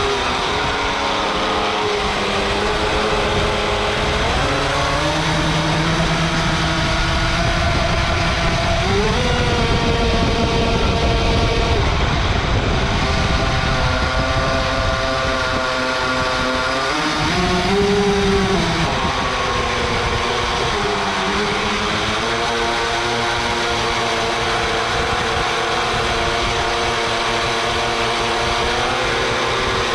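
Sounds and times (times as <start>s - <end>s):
boat motor whine: 0.0s - 29.9s.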